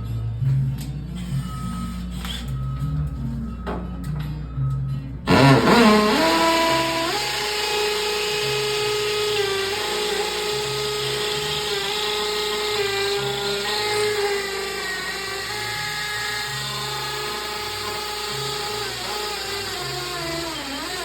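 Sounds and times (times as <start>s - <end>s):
power drill motor whine: 1.2s - 3.0s, 5.3s - 21.0s.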